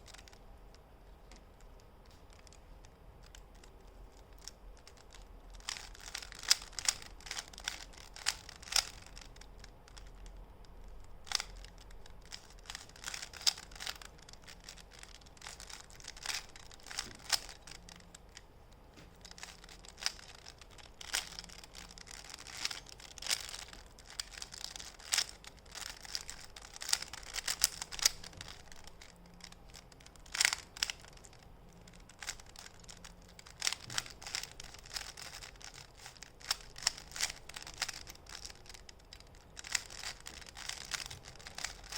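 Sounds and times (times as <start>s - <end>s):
puzzle cube plastic clicks: 0.0s - 41.9s.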